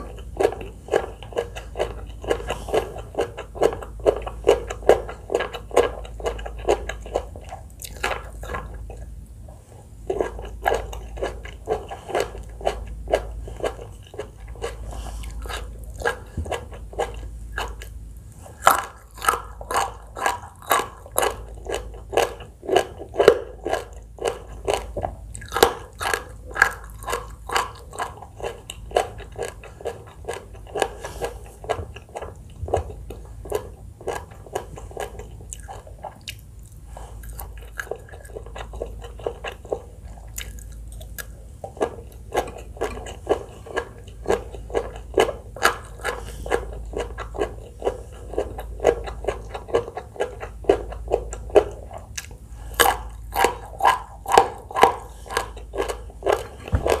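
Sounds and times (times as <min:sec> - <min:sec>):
close chewing and biting: 0:00.0 - 0:57.0.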